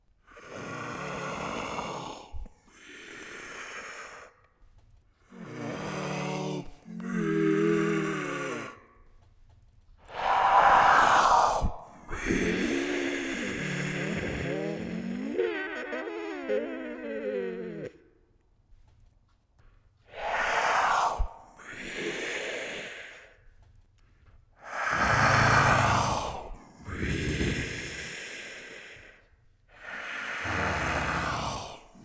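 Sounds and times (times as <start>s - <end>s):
eerie ghost voice whispering: 0.4s - 4.3s, 5.3s - 9.0s, 10.1s - 18.0s, 20.1s - 23.4s, 24.6s - 29.2s, 29.8s - 32.0s.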